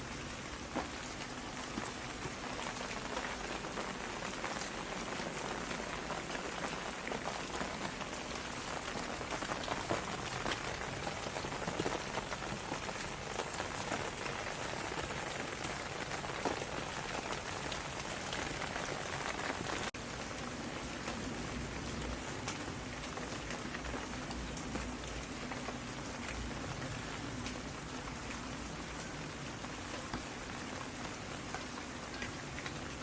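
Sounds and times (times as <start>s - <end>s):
rain drops pattering: 0.0s - 33.0s.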